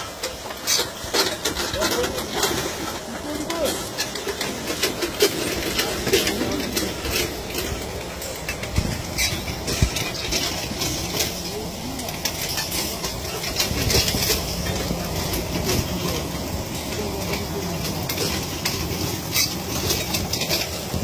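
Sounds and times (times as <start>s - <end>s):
harvester machine running: 0.0s - 21.0s
machinery clicks and knocks: 0.0s - 21.0s.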